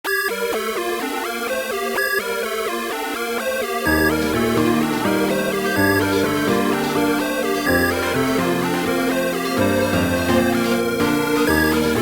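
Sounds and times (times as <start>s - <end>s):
instrumental background music: 0.4s - 12.0s.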